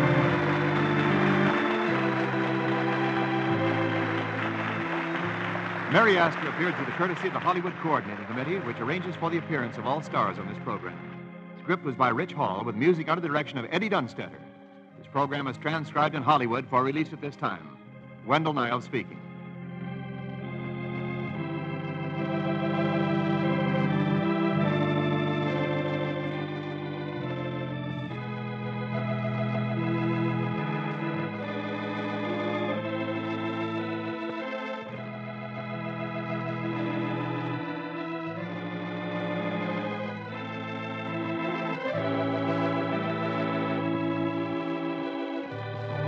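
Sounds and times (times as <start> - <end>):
organ playing slow chords: 0.0 - 46.0.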